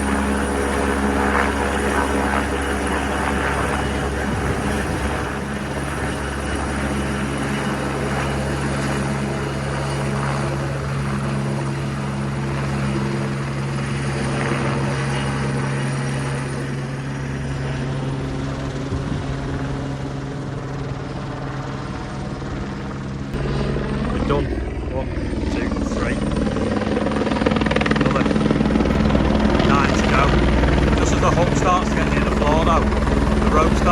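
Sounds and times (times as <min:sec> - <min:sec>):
helicopter hovering: 0:00.0 - 0:33.9.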